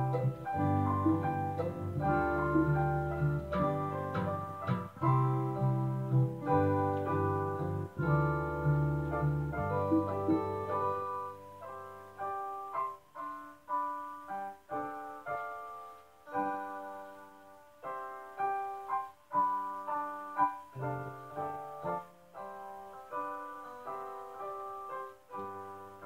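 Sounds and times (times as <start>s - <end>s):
slow gentle piano: 0.0s - 26.0s.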